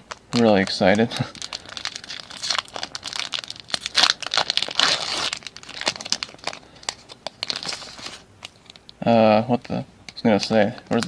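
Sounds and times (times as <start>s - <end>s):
foil wrapper tearing: 0.0s - 8.9s
foil wrapper crackling: 0.0s - 11.0s.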